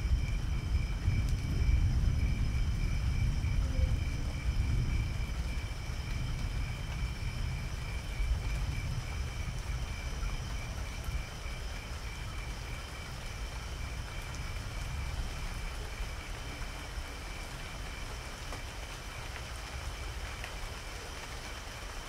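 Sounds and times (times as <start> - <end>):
distant thunder rumble: 0.0 - 17.9
steady rain falling: 0.0 - 22.0.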